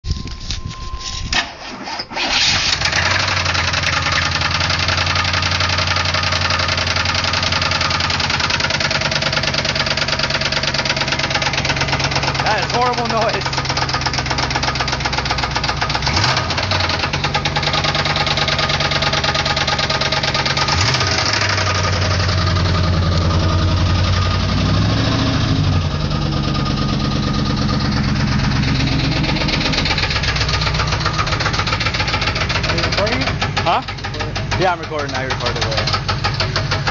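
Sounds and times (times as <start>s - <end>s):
car engine running: 2.6s - 36.9s
heavy rapid engine knock: 3.6s - 24.2s, 26.0s - 36.9s.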